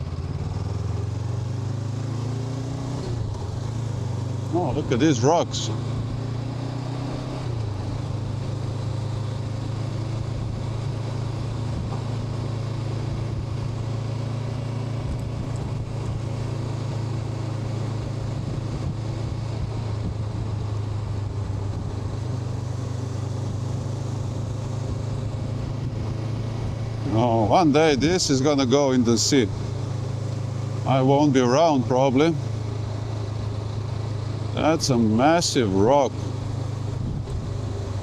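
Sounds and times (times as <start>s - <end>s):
motorcycle engine drone: 0.0s - 38.0s.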